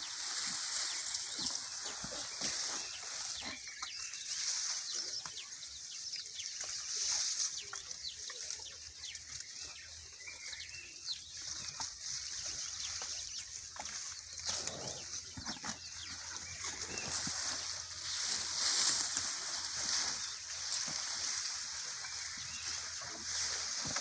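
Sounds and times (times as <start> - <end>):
farm animal sounds: 0.0 - 24.0.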